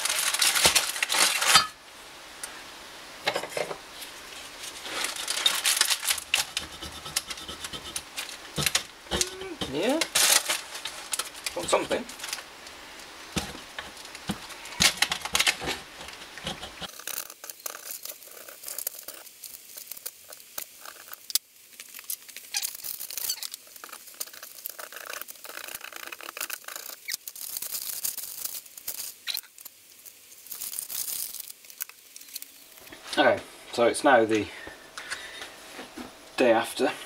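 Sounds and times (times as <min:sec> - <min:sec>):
aluminium foil crinkling: 0:00.0 - 0:01.8, 0:04.0 - 0:33.1.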